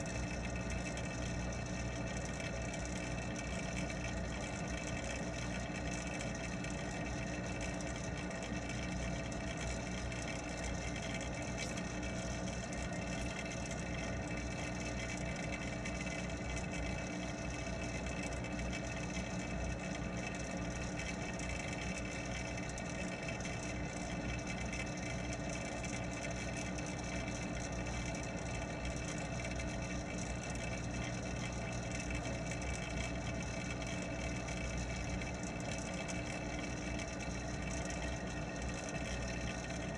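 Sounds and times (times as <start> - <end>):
water pump hum underwater: 0.0 - 39.9.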